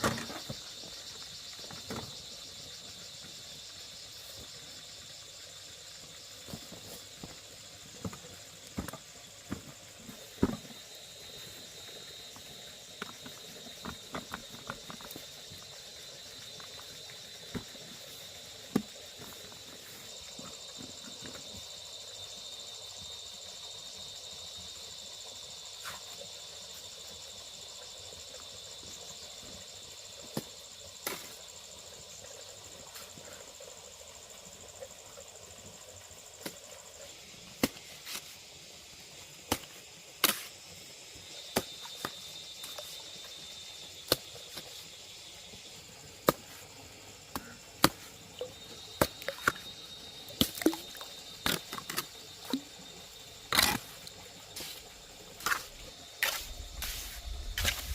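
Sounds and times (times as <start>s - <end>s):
insects chirring: 0.0s - 57.9s.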